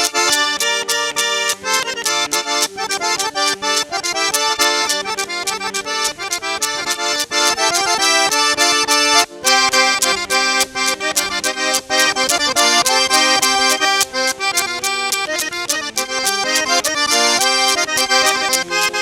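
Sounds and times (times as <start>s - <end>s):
accordion dance tune: 0.0s - 19.0s
quick regular beat: 0.0s - 19.0s.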